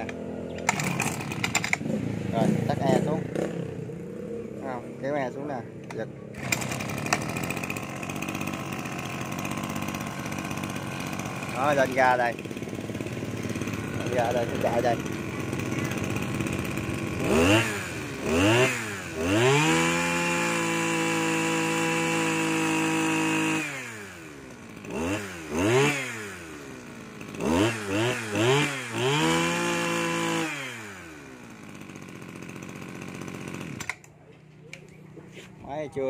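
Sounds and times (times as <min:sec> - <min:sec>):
brush cutter engine revving: 0:00.0 - 0:35.6.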